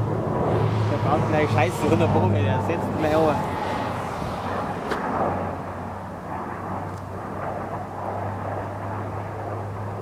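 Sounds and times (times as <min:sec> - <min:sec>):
turboprop aircraft drone: 0:00.0 - 0:10.0.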